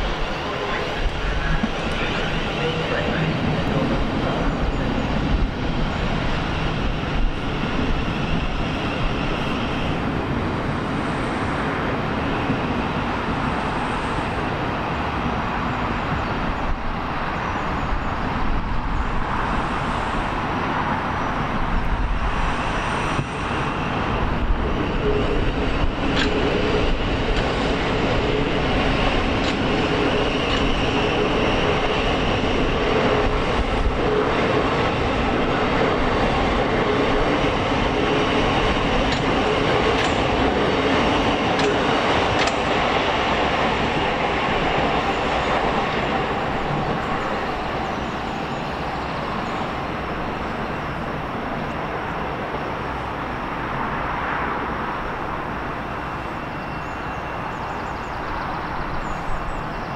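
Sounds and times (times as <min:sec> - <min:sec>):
train wheels running: 0:00.0 - 0:59.9.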